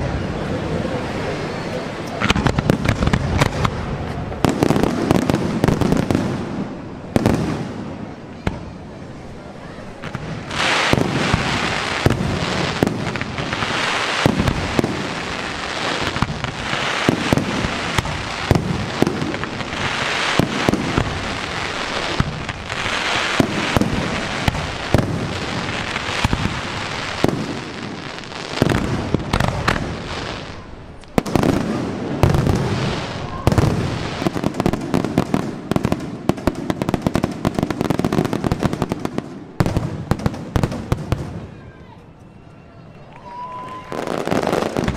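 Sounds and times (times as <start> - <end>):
fireworks crackle: 1.0 - 9.4, 10.0 - 41.8, 43.2 - 44.9.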